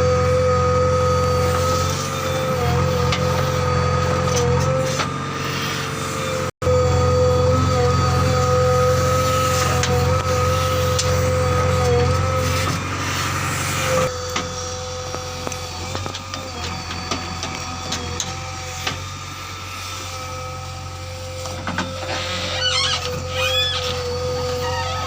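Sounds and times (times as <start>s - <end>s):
diesel engine running with whine: 0.0s - 25.0s.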